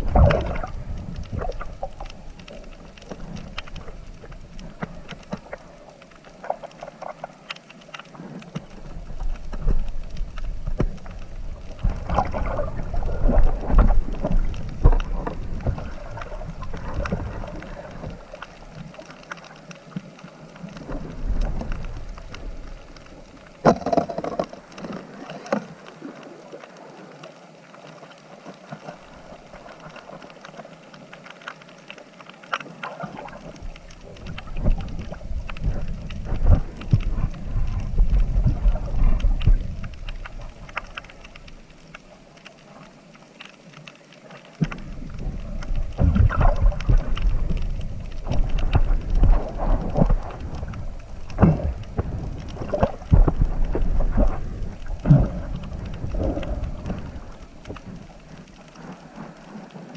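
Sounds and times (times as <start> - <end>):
water sloshing and splashing: 0.0 - 59.9.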